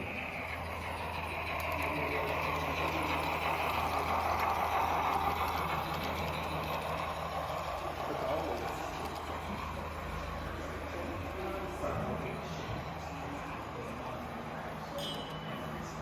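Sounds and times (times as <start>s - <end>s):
noisy rumble: 0.0s - 14.9s
low mechanical hum: 0.0s - 16.0s.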